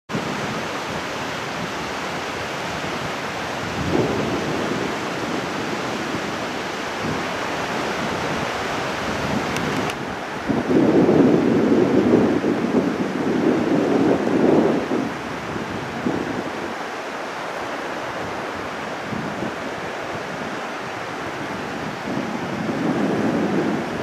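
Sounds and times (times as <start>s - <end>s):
river rushing over rapids: 0.1s - 24.0s.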